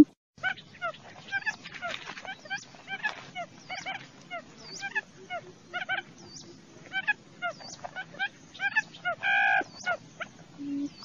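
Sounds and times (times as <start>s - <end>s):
quail calling: 0.4s - 11.0s.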